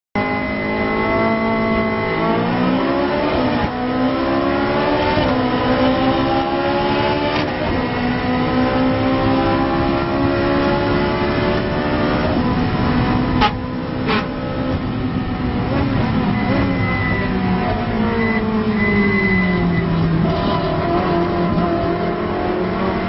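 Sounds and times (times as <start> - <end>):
race car engine accelerating: 0.2 - 23.0.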